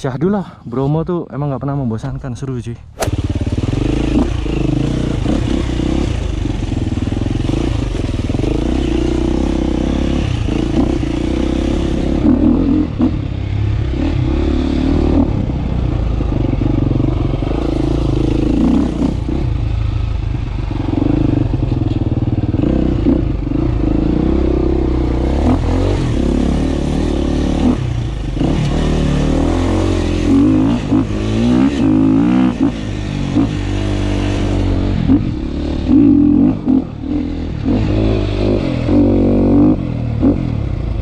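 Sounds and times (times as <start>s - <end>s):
dirt bike engine revving: 3.0s - 20.0s, 22.5s - 40.7s.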